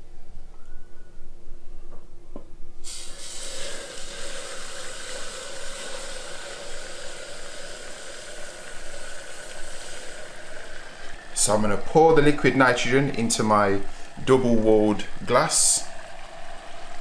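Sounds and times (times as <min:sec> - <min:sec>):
steady hiss: 0:02.8 - 0:16.6
liquid nitrogen pouring and boiling: 0:02.8 - 0:17.0.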